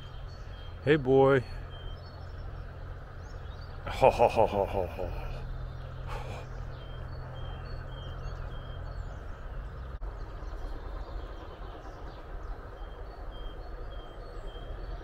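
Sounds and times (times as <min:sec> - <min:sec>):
low rumble and hiss: 0:00.0 - 0:15.0.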